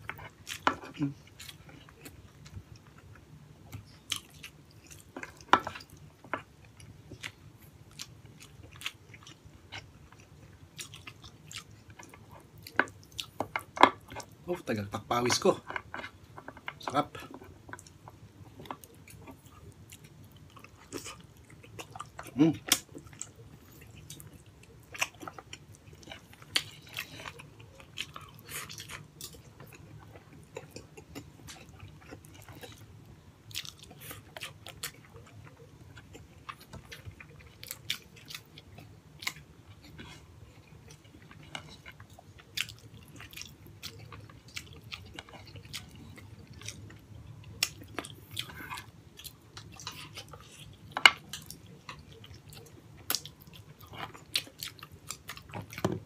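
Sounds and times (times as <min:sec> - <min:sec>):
person chewing food: 0:00.0 - 0:14.7, 0:15.3 - 0:56.0.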